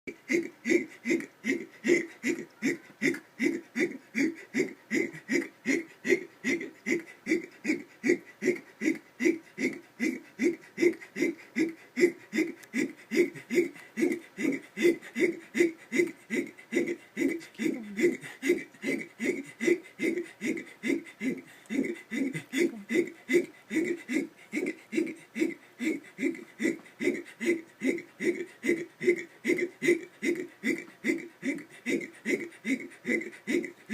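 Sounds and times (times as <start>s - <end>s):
person hiccuping: 0.2s - 33.8s.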